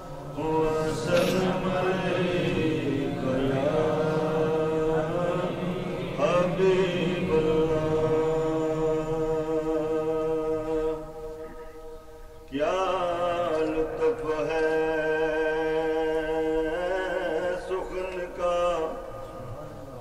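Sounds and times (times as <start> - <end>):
man chanting into a microphone: 0.0 - 11.8, 12.5 - 20.0.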